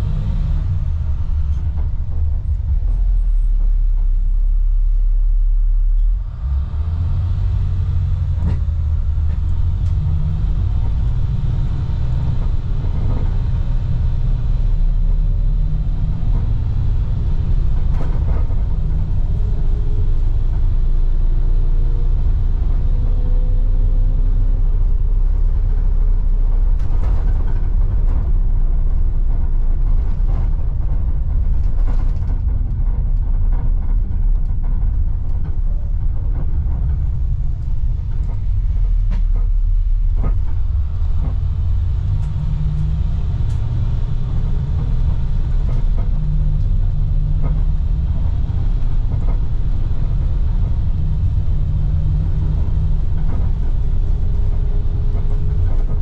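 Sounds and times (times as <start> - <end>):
bus body rattling over bumps: 0.0 - 5.0, 6.0 - 56.0
bus engine and road rumble: 0.0 - 56.0.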